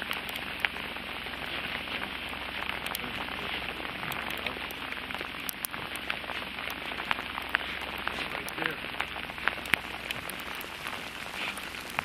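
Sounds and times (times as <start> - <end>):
hail pellets ticking on boat: 0.0 - 12.0
rain hissing: 0.0 - 12.0.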